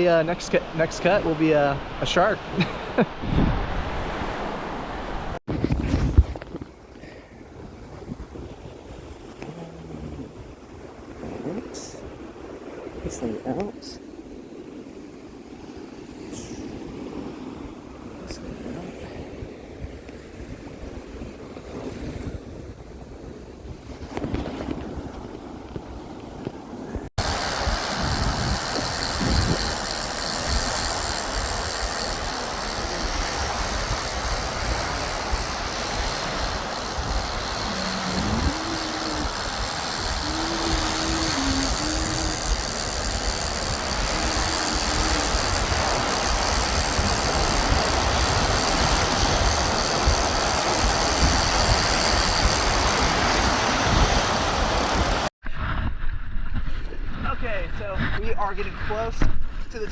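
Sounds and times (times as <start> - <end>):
wind rushing on microphone: 1.0 - 59.9
sea water splashing: 7.0 - 55.3.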